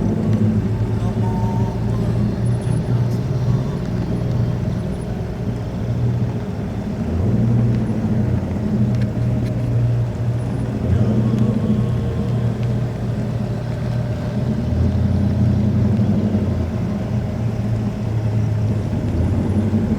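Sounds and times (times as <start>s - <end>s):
car engine rumbling: 0.0s - 19.9s.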